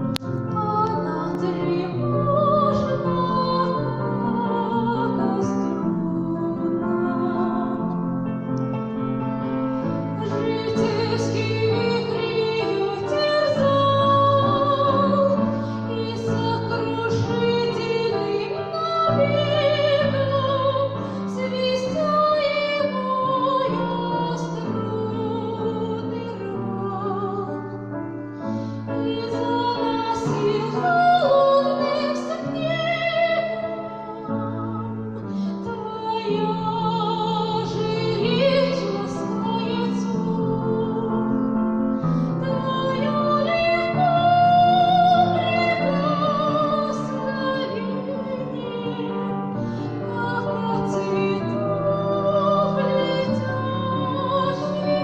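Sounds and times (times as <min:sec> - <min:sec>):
sustained piano chords: 0:00.0 - 0:55.0
woman singing operatic style: 0:00.1 - 0:08.1, 0:10.1 - 0:27.7, 0:28.9 - 0:55.0.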